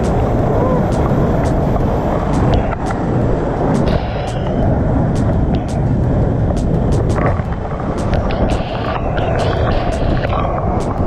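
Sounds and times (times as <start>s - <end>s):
waterfall roaring into pool: 0.0s - 11.0s
sharp clicks: 0.9s - 11.0s.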